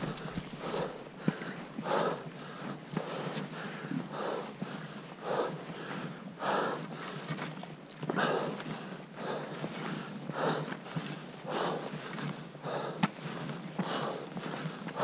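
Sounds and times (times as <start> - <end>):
heavy rhythmic breathing: 0.0 - 7.4, 8.0 - 15.0.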